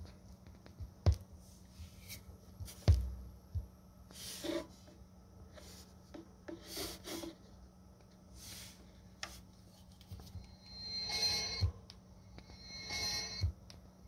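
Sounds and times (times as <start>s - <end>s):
vinyl record surface noise: 0.0s - 13.9s
low steady hum: 0.0s - 14.0s.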